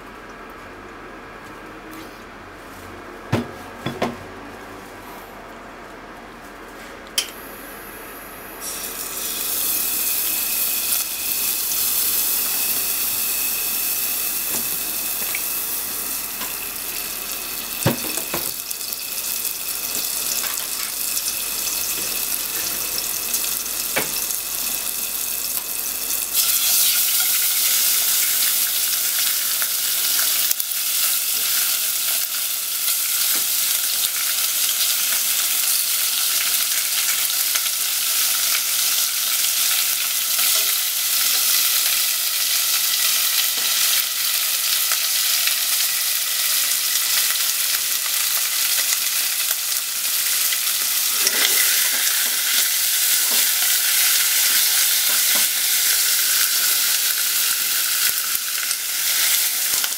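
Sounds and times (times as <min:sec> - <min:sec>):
oil and butter sizzling: 0:08.6 - 0:59.9.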